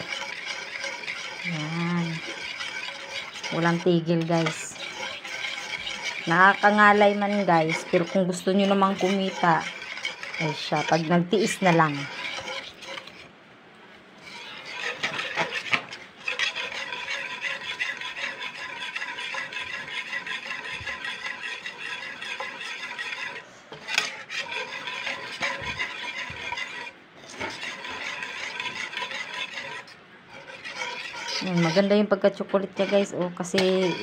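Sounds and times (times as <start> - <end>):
whisk scraping against pot: 0.0 - 13.3, 14.2 - 34.0.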